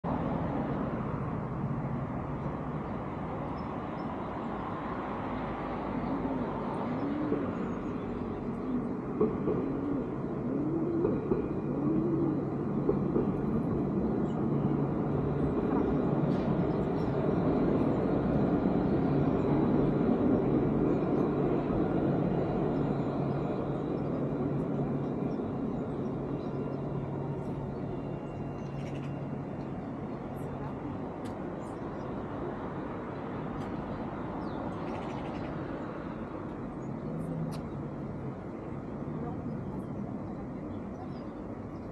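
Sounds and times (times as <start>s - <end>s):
tram hum and rumble: 0.0s - 41.9s.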